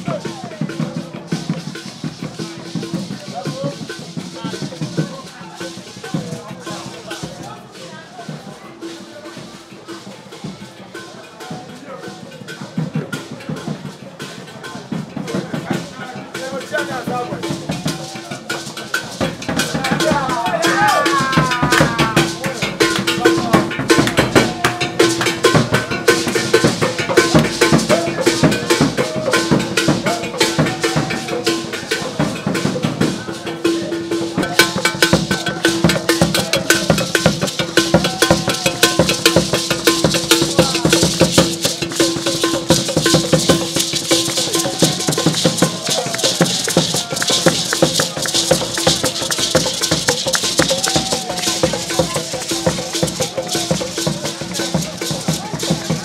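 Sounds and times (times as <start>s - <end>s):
drum and rattle music: 0.0s - 56.0s
voices: 0.0s - 56.0s.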